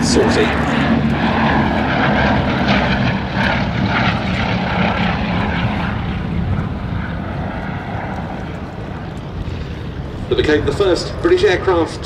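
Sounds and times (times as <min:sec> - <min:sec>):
propeller aircraft drone: 0:00.0 - 0:12.0.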